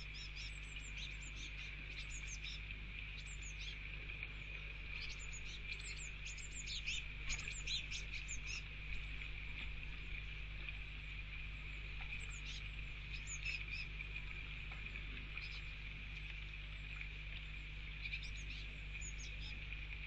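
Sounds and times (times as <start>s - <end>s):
birds chirping: 0.0s - 20.0s
low hum: 0.0s - 20.0s.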